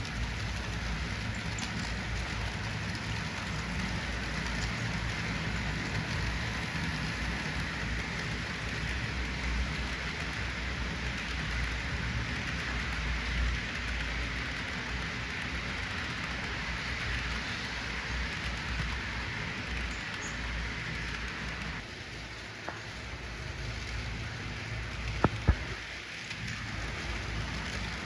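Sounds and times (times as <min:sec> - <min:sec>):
continuous even hiss: 0:00.0 - 0:28.0
low locomotive engine rumble: 0:00.0 - 0:28.0.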